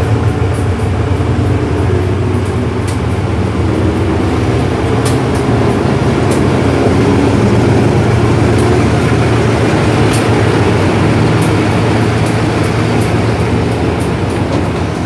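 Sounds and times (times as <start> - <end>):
locomotive engine hum: 0.0 - 15.0
wheels clicking on rails: 0.0 - 15.0.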